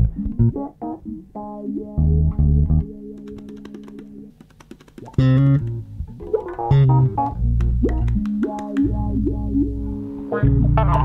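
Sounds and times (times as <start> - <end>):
instrumental theme music: 0.0 - 11.0.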